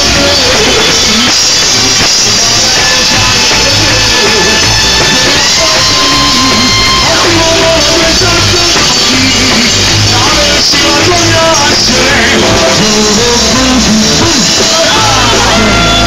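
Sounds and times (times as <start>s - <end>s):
drum kit with cymbals: 0.0s - 16.0s
loud live band music: 0.0s - 16.0s.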